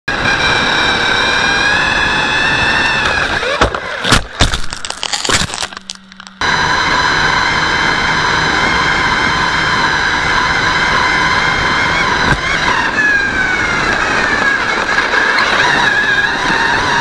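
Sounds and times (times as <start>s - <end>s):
rc truck motor whine: 0.1s - 17.0s
low hum: 0.3s - 17.0s.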